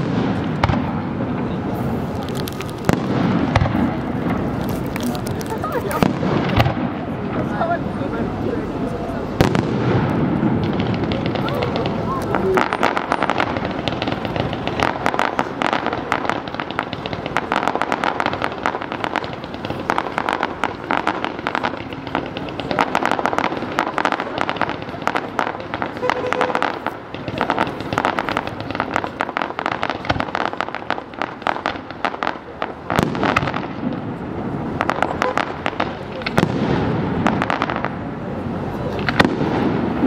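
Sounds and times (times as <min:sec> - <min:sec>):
fireworks popping and banging: 0:00.0 - 0:40.0.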